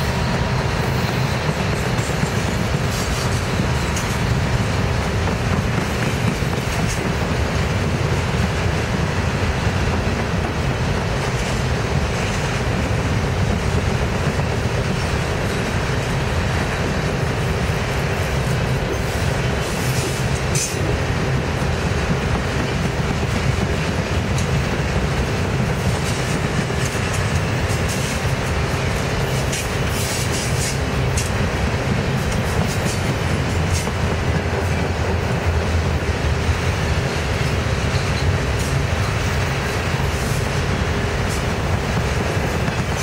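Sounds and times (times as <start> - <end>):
train cars rumbling past: 0.0 - 43.0.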